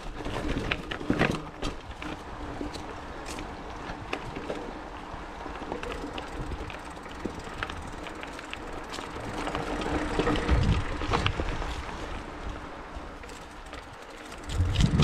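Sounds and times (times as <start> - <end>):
bike clicks and rattles: 0.0 - 15.0
bike tyres rolling on dirt: 0.0 - 15.0.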